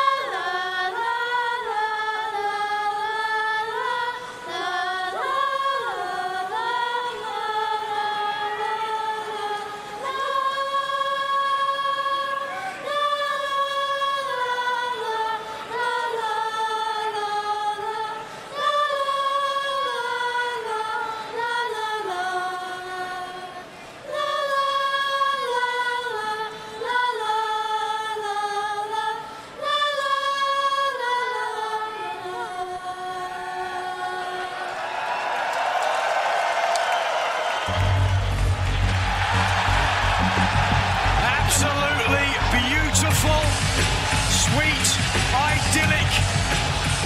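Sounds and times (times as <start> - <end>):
children's choir singing: 0.0 - 35.5, 37.7 - 47.0.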